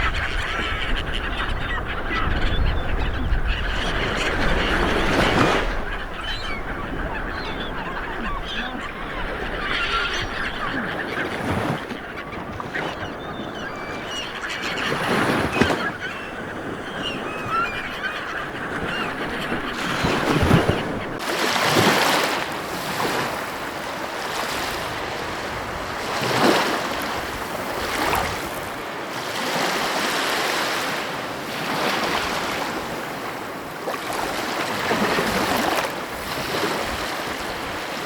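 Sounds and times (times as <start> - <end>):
birds honking: 0.0 - 38.0
ocean waves washing in: 4.1 - 38.0.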